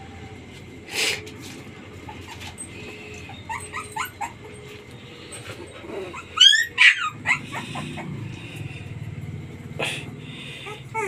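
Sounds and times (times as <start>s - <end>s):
puppies whimpering and squealing: 1.5s - 11.0s.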